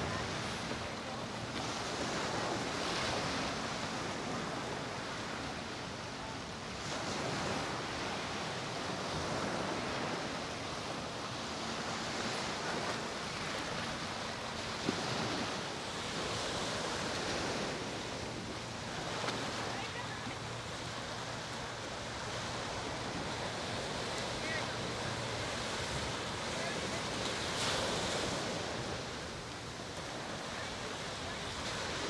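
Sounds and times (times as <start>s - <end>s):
waves breaking on a beach: 0.0s - 32.0s.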